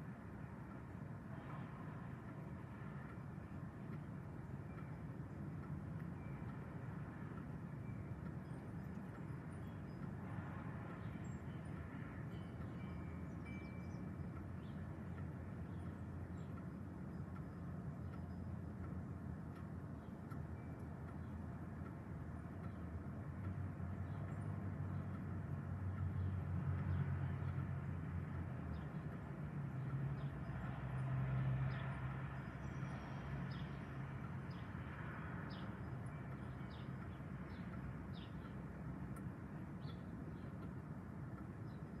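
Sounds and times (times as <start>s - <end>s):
gusty wind through trees: 0.0s - 42.0s.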